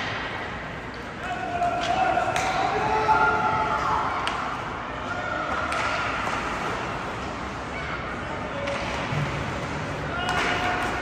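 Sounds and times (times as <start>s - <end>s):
echoing arena noise: 0.0s - 11.0s.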